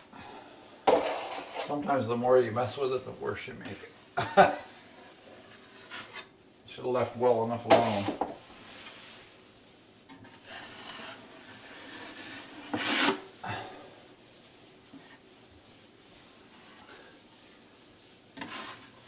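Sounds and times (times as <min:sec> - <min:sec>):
drywall knife scraping compound: 0:00.8 - 0:02.9, 0:04.8 - 0:06.3, 0:07.0 - 0:19.0.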